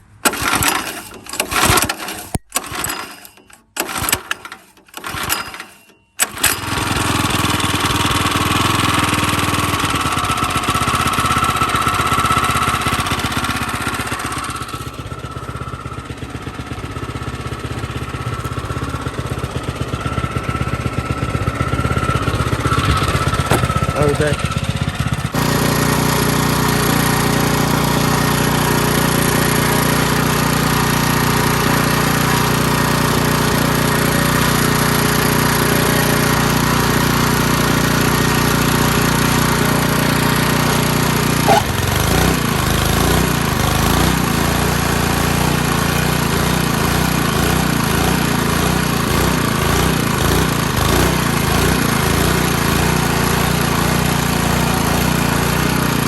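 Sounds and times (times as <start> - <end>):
small gasoline engine running: 0.0 - 56.0
engine knock: 6.2 - 56.0.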